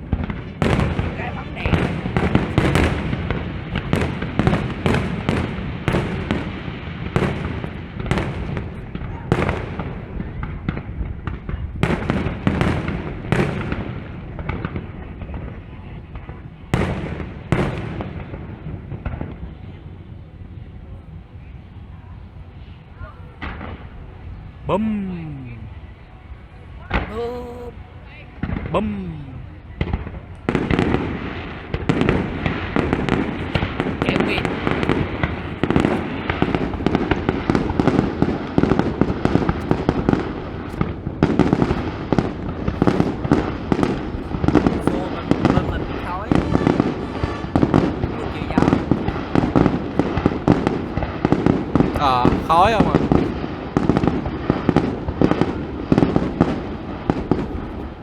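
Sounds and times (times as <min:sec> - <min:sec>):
fireworks booming with rumbling echo: 0:00.0 - 0:58.0.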